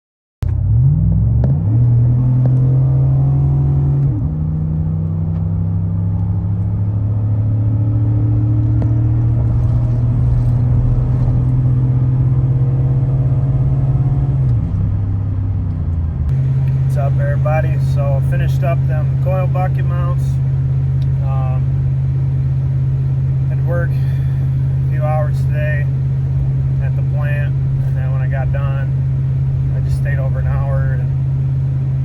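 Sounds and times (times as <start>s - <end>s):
vehicle engine running: 0.4s - 32.0s.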